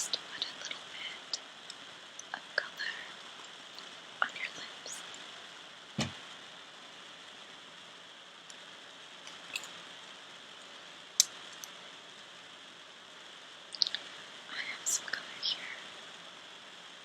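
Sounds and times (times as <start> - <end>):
fireplace hiss: 0.0 - 17.0.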